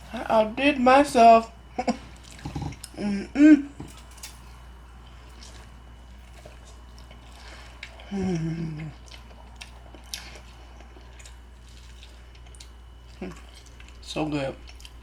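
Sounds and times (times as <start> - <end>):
person chewing corn: 1.9 - 3.1, 3.7 - 15.0.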